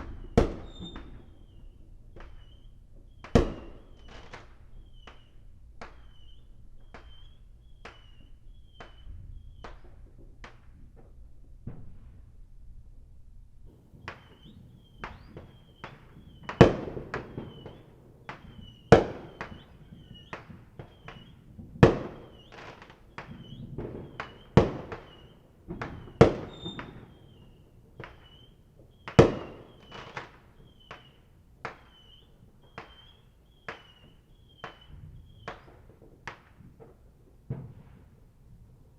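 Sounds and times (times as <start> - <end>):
small firework pops: 0.0 - 12.4, 13.6 - 38.9
fireworks banging: 0.0 - 12.5, 13.7 - 38.9.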